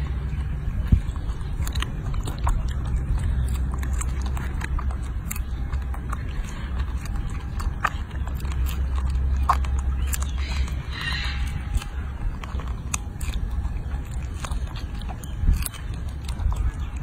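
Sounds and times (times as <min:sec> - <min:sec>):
monkey chewing clicks: 0:00.0 - 0:17.0
steady low rumble: 0:00.0 - 0:17.0.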